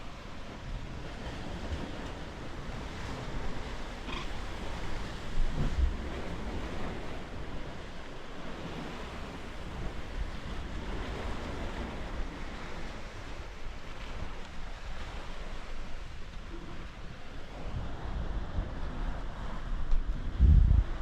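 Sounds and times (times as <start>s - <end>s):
sea surf washing: 0.0s - 21.0s
wind rumbling on microphone: 0.0s - 21.0s.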